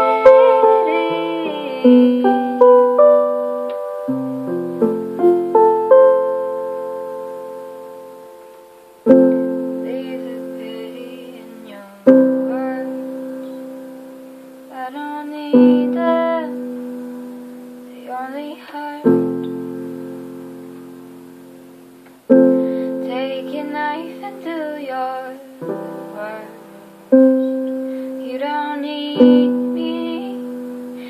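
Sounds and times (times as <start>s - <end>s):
piano chords ringing: 0.0s - 31.0s.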